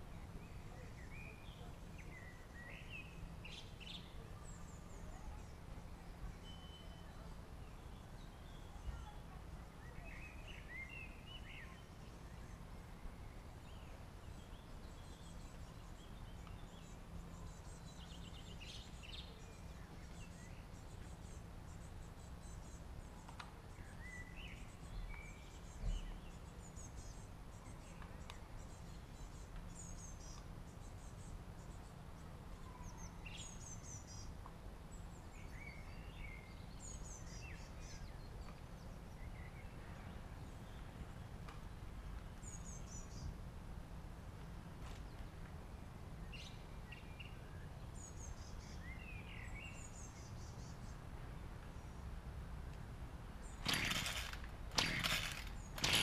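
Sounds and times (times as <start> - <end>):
small birds chirping: 0.0 - 43.4, 46.2 - 52.0, 53.2 - 56.0.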